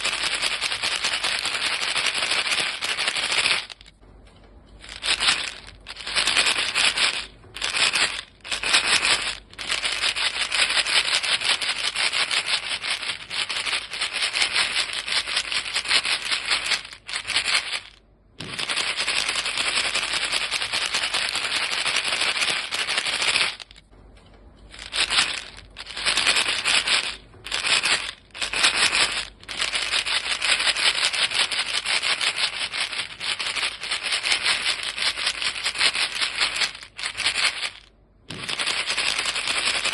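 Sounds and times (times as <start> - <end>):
gum pellets rattling in a box: 0.0 - 4.0, 4.8 - 23.9, 24.6 - 39.9.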